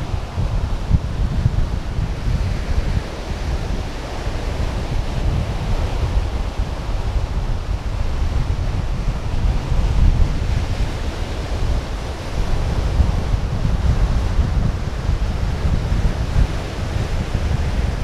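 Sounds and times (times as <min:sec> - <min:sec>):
surf washing: 0:00.0 - 0:18.0
wind buffeting microphone: 0:00.0 - 0:18.0.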